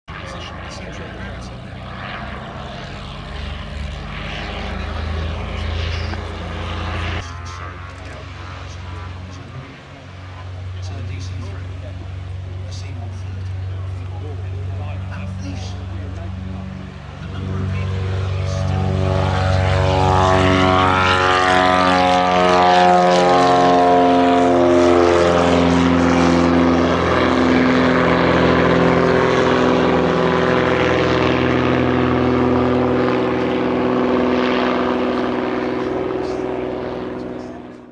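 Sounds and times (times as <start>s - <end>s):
propeller aircraft engines droning: 0.1s - 37.9s.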